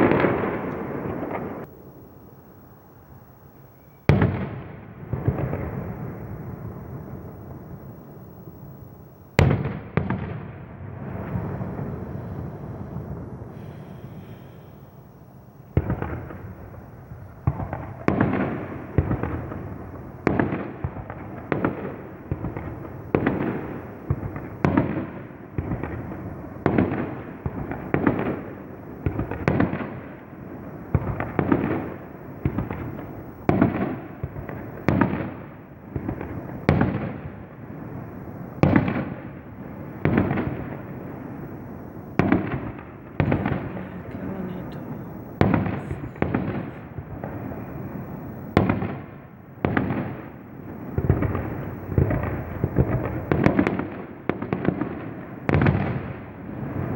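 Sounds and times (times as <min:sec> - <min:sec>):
fireworks bangs: 0:00.0 - 0:56.9
rumble of fireworks: 0:00.0 - 0:56.9.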